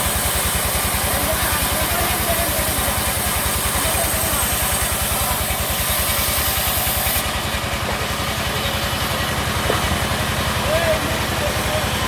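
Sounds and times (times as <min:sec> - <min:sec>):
sawmill engine running: 0:00.0 - 0:12.0.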